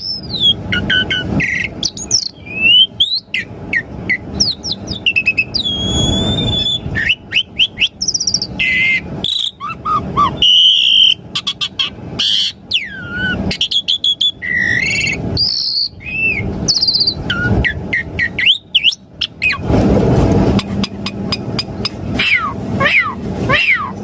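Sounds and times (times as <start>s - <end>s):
starling singing: 0.0s - 19.8s, 20.4s - 24.0s.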